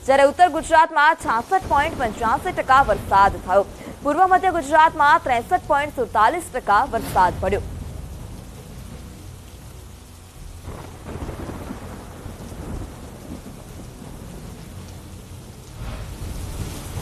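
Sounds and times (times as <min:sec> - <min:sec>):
steady rain: 0:00.0 - 0:17.0
rolling thunder: 0:01.4 - 0:17.0.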